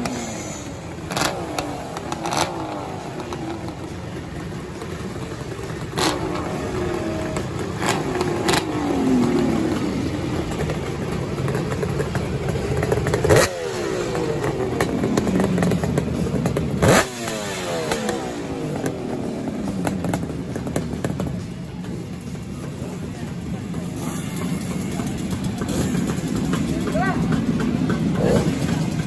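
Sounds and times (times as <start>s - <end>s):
two-stroke motorcycle engines revving: 0.0s - 29.0s.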